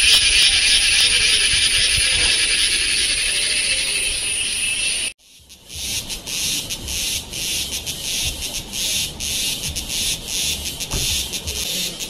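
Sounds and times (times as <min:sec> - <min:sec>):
cicadas buzzing in chorus: 0:00.0 - 0:12.0.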